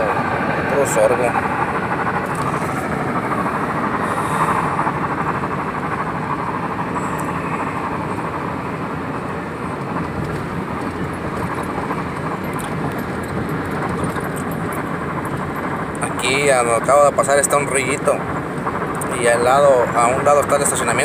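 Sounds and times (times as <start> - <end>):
car engine cruising: 0.0 - 21.0
tyres on asphalt: 0.0 - 21.0.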